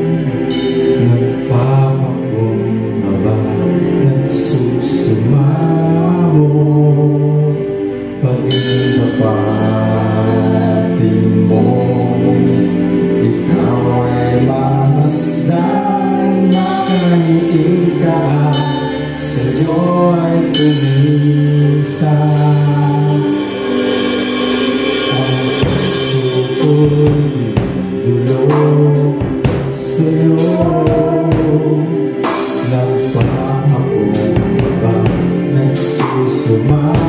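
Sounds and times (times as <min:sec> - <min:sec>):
bass guitar: 0:00.0 - 0:37.0
keyboard: 0:00.0 - 0:37.0
man singing: 0:00.0 - 0:37.0.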